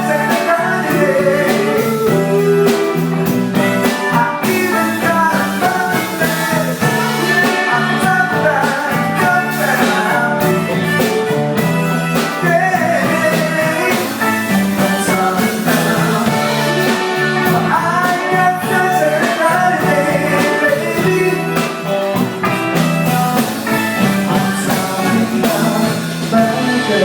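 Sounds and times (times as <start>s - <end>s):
guitar: 0.0s - 27.0s
person singing lead: 0.0s - 27.0s
sustained bass notes: 0.0s - 27.0s.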